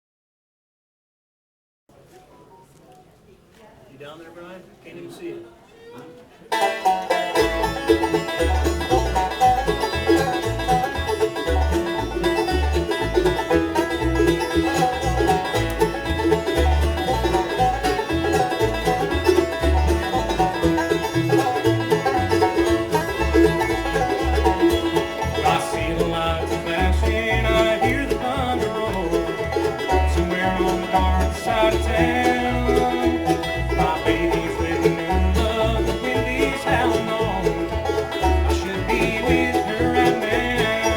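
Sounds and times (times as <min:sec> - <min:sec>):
bluegrass band playing: 0:01.9 - 0:40.9
steady bass beat: 0:07.4 - 0:40.9.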